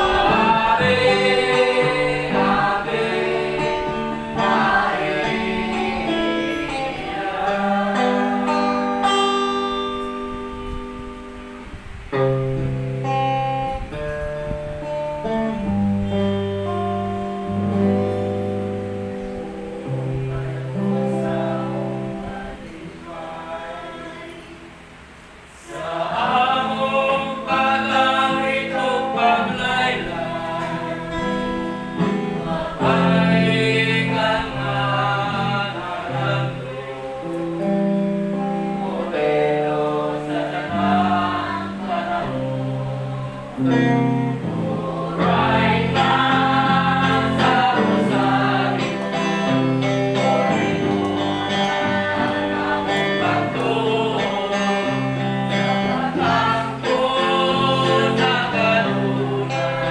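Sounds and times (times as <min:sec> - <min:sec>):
group singing gospel song: 0:00.0 - 0:59.9
guitar accompaniment: 0:00.0 - 0:59.9.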